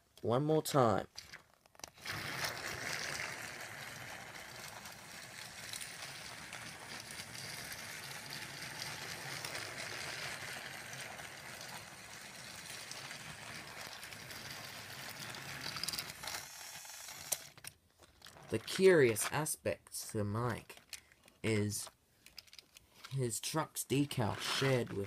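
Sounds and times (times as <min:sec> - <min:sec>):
toy train motor whirring: 0:01.8 - 0:19.2, 0:20.8 - 0:23.2, 0:24.2 - 0:25.0.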